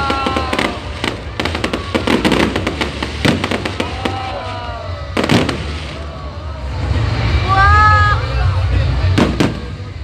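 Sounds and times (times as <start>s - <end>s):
fireworks bangs and crackling: 0.0s - 7.4s, 8.5s - 10.0s.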